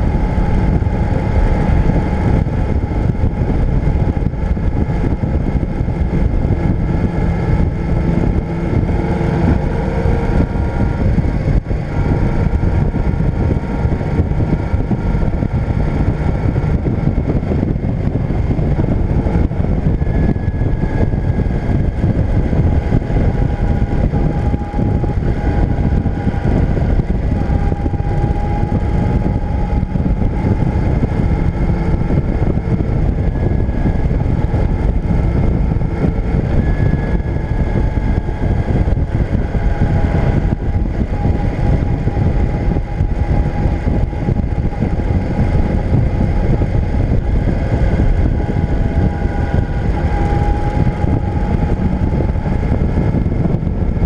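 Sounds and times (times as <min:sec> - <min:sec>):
faint whine: 0:00.0 - 0:54.0
motorcycle engine running: 0:00.0 - 0:54.0
wind rush and road noise: 0:00.0 - 0:54.0.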